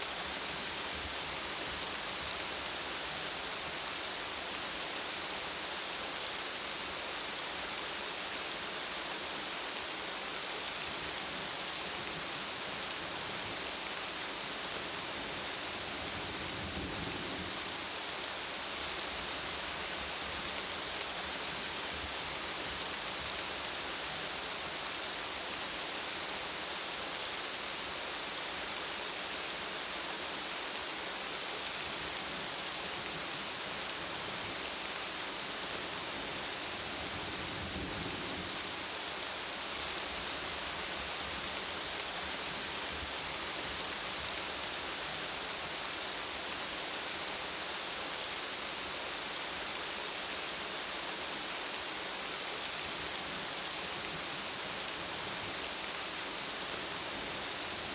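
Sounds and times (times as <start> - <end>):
steady rainfall on hard surfaces: 0.0 - 57.9.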